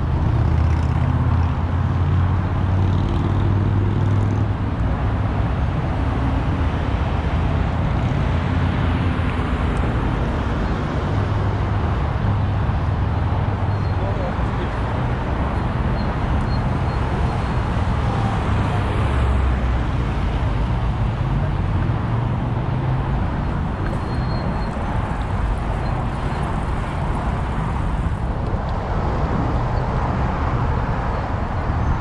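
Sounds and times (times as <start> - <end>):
car engines: 0.0 - 32.0
tyre and road noise: 0.0 - 32.0.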